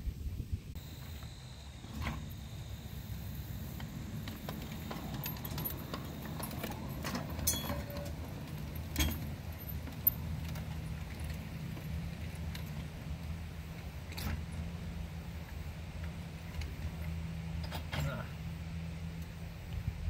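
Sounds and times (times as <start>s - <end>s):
model freight cars rolling over rail joints: 1.8s - 18.2s.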